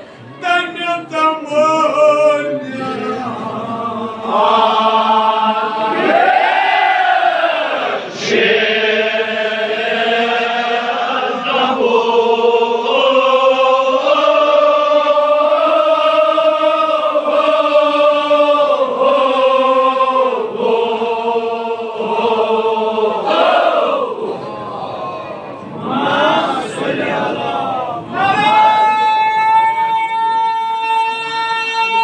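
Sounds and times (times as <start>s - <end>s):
men chanting: 0.0s - 25.2s, 25.8s - 32.0s.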